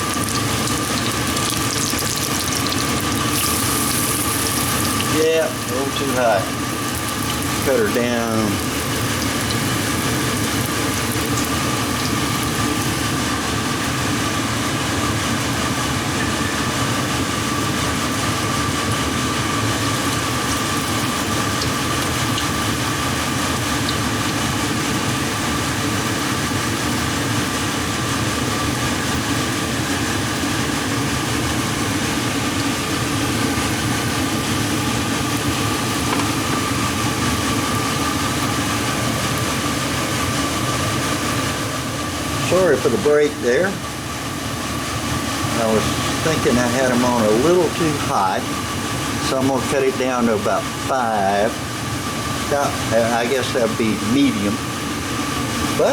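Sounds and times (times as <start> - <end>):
fan running with whine: 0.0 - 55.9.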